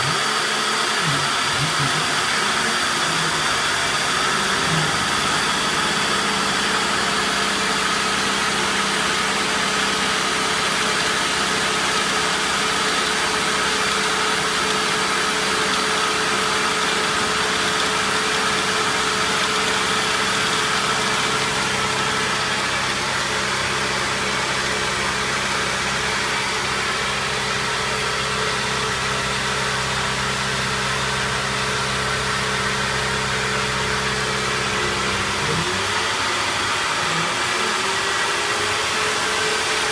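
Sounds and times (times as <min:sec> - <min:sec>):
milling machine whirring: 0:00.0 - 0:39.9.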